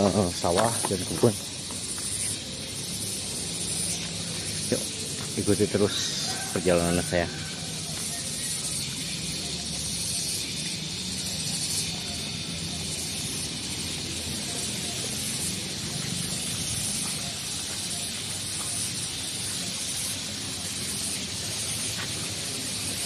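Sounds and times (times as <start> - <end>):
outdoor hiss: 0.0 - 23.0.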